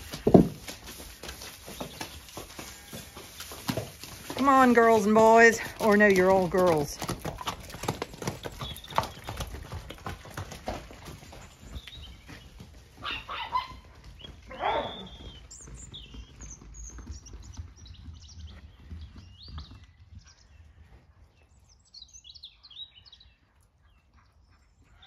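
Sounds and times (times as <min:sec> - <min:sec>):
small birds chirping: 0:01.0 - 0:25.0.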